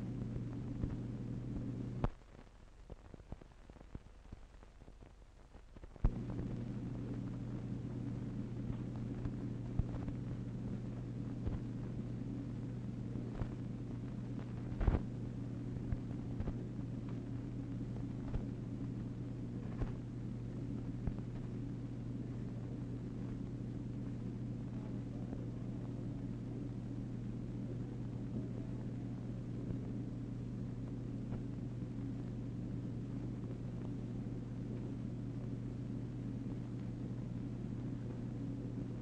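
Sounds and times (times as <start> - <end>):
low hum and hiss: 0.0 - 39.0.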